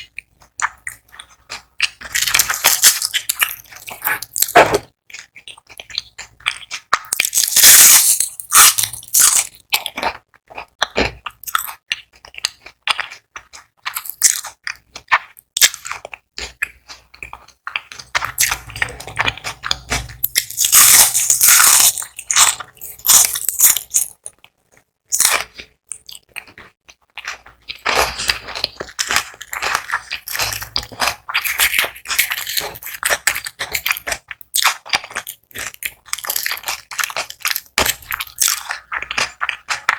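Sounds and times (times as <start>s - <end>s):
crunching crispy food: 0.0s - 39.9s.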